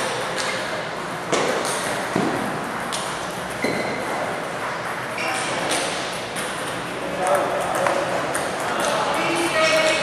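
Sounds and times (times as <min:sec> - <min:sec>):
large hall background: 0:00.0 - 0:10.0.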